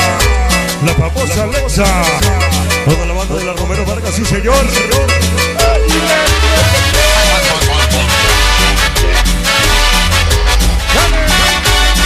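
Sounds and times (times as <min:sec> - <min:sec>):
instrumental cumbia music: 0:00.0 - 0:12.0.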